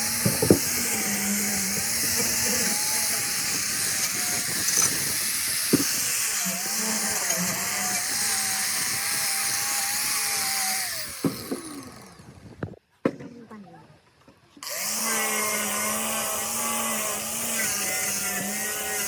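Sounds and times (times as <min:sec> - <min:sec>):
power tool whining: 0:00.0 - 0:12.8, 0:14.6 - 0:19.0.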